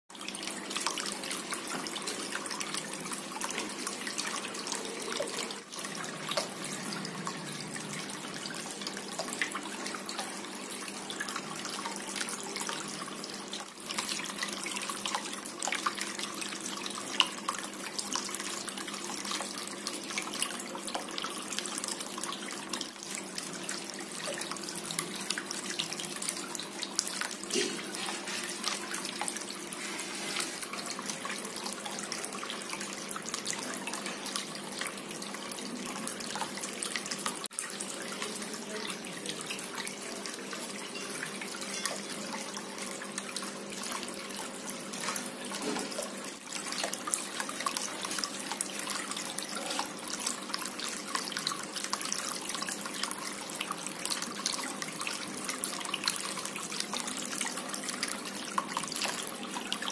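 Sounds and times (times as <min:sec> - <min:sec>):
fountain water trickling: 0:00.1 - 0:59.9.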